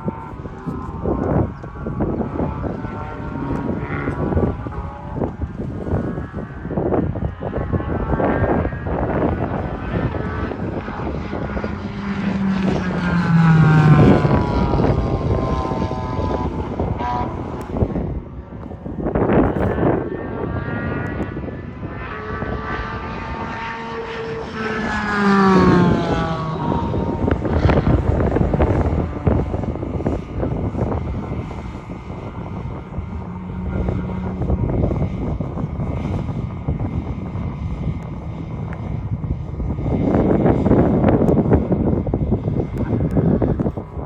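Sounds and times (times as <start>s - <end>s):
race car passing at speed: 0.0s - 44.0s
wind noise: 0.0s - 44.0s.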